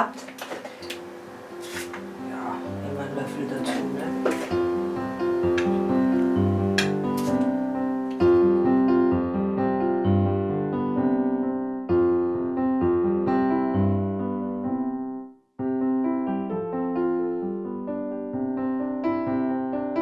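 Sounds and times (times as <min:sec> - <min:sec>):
piano music: 0:00.8 - 0:20.0.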